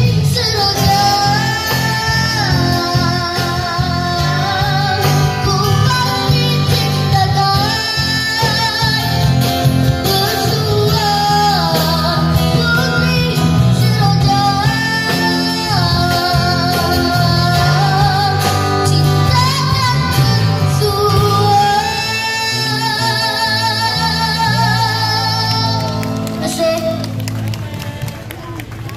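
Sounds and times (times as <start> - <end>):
strummed acoustic guitar: 0.0 - 27.2
person singing with vibrato: 0.0 - 28.6
bass guitar: 0.0 - 28.9
drums: 0.0 - 28.9.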